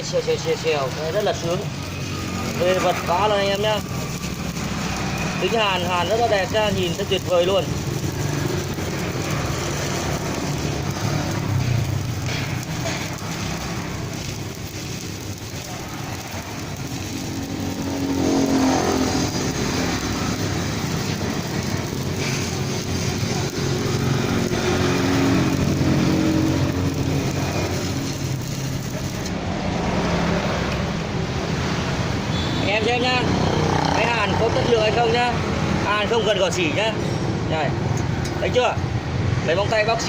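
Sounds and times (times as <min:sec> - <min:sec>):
welding arc sizzling and crackling: 0:00.0 - 0:40.0.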